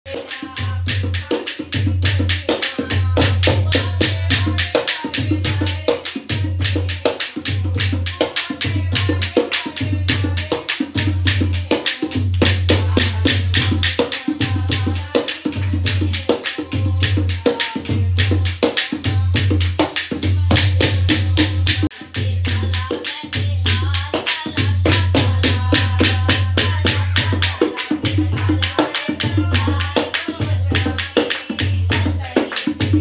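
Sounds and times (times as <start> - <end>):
hand drum folk rhythm: 0.1 - 33.0
people clapping along: 0.1 - 33.0.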